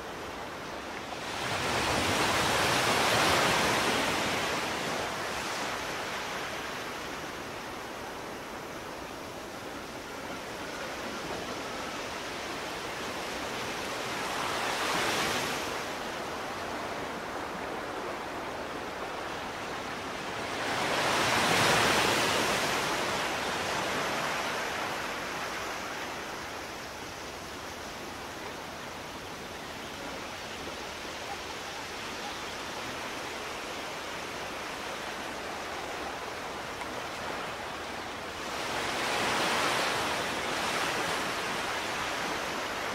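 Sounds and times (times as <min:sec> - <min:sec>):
rushing water: 0:00.0 - 0:42.9.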